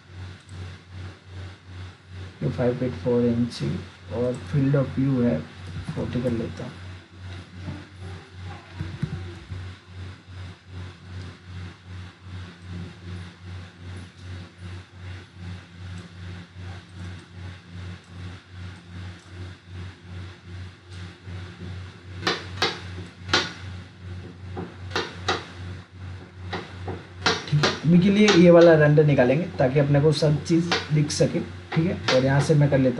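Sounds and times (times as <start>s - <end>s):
pulsing low hum: 0.0s - 32.9s.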